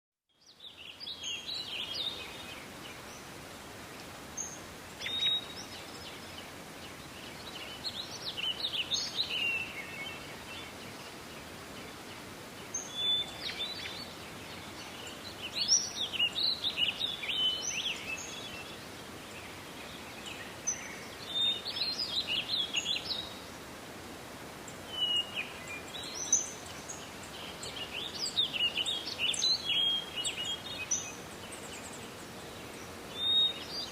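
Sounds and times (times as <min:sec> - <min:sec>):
forest ambience hiss: 0:00.3 - 0:33.9
songbirds chirping and trilling: 0:00.3 - 0:33.9.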